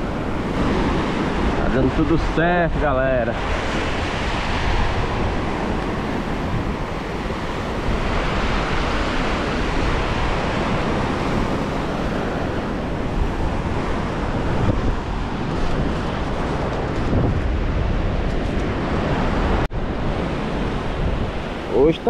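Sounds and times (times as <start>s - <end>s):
surf washing onto beach: 0.0s - 22.0s
wind buffeting microphone: 0.0s - 22.0s.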